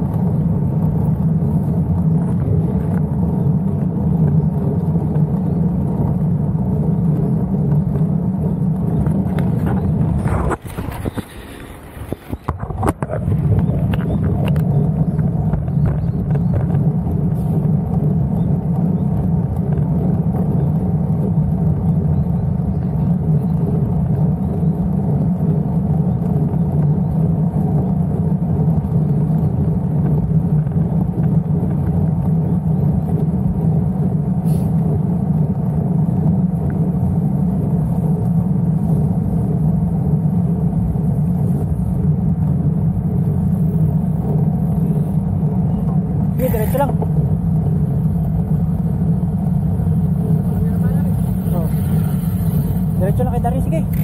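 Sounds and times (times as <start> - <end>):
motor vehicle rumble: 0.0 - 54.0.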